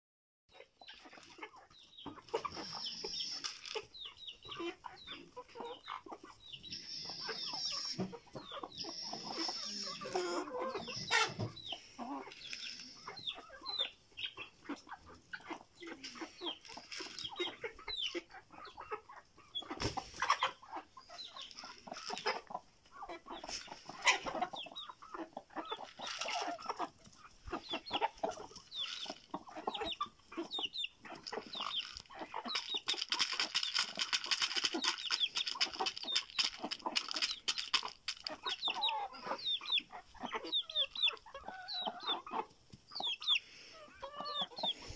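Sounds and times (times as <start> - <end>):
hens clucking: 0.5 - 44.9.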